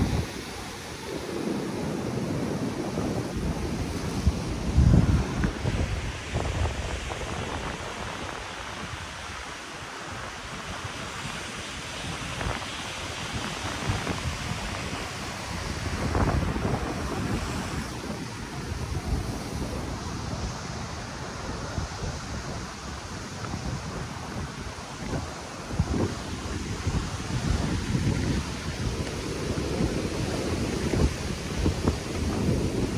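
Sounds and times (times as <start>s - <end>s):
ocean surf breaking on rocks: 0.0s - 32.9s
wind buffeting microphone: 0.0s - 32.9s.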